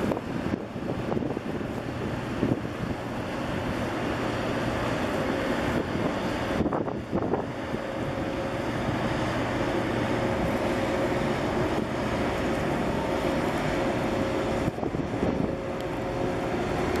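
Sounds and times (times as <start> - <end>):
choppy water: 0.0 - 17.0
faint ship hum: 0.0 - 17.0
wind noise on microphone: 0.0 - 17.0.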